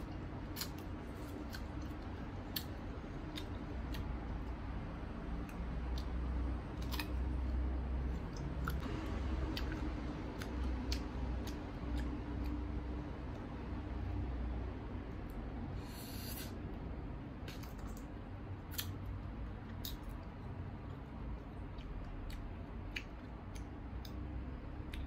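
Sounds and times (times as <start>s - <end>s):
crunchy chewing of mango: 0.0s - 13.4s, 17.4s - 25.0s.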